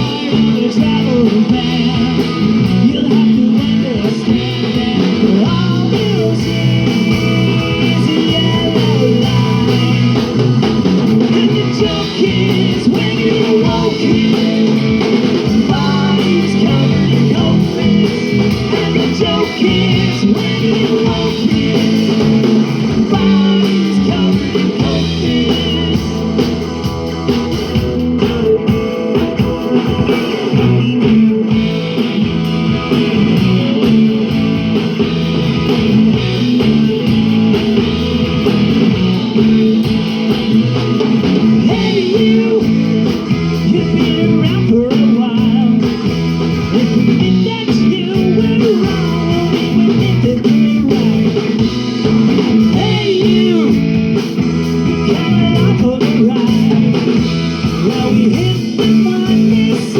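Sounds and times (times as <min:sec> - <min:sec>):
person singing: 0:00.0 - 0:27.0, 0:27.8 - 0:32.2, 0:38.8 - 0:54.3, 0:54.9 - 0:59.9
drums: 0:00.0 - 0:59.9
electric guitar: 0:00.0 - 0:59.9.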